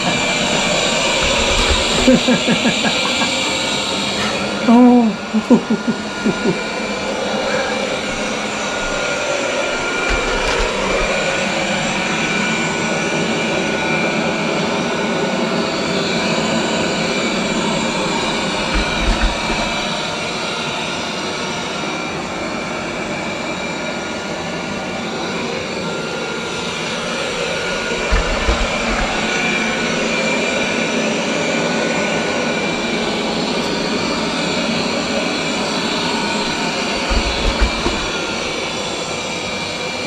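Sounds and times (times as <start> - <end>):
robot vacuum whirring: 0.0 - 14.5, 15.8 - 20.8, 26.5 - 39.9.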